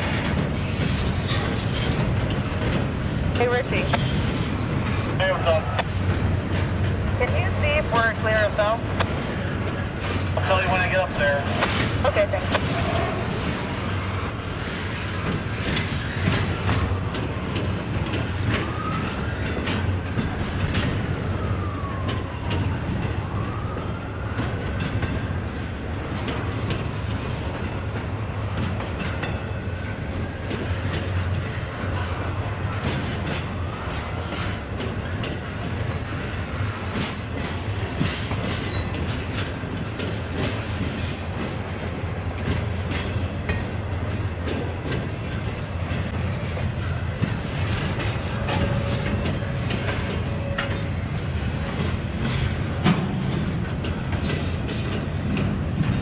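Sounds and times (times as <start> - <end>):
wheels clicking over rail joints: 0.0 - 7.6, 11.1 - 56.0
freight train rumbling past: 0.0 - 56.0.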